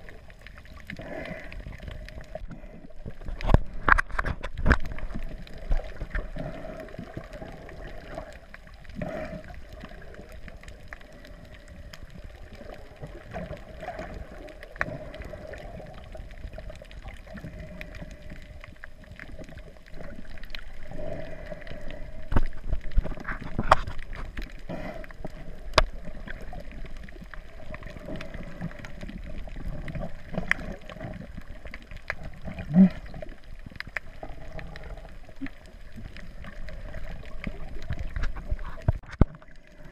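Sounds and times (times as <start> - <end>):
water gurgling against a case: 0.0 - 39.9.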